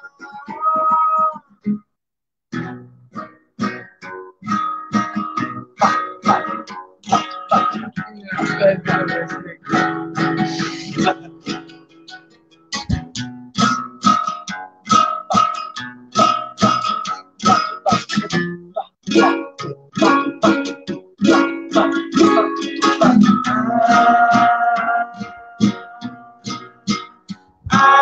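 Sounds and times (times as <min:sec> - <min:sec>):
acoustic guitar strumming: 0:02.5 - 0:28.0.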